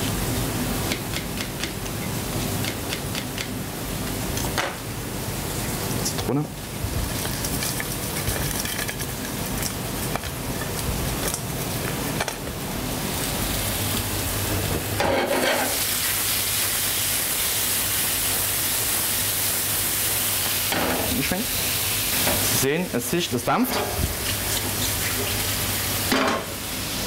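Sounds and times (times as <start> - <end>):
food frying in pans: 0.0 - 27.0
prawns sizzling in hot fat: 0.0 - 27.0.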